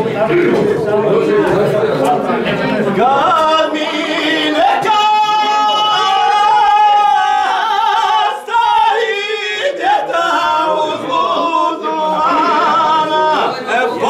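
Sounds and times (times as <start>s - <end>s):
group singing unaccompanied: 2.4s - 14.0s.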